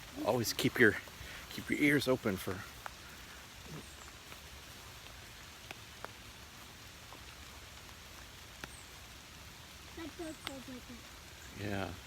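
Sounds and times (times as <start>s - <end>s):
rain hissing: 0.0s - 12.0s
raindrops tapping: 0.0s - 12.0s.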